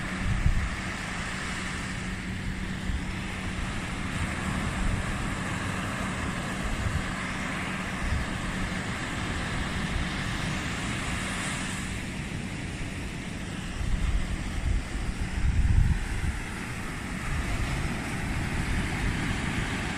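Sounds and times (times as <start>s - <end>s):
surf washing on a beach: 0.0s - 19.9s
wind on microphone: 0.0s - 19.9s.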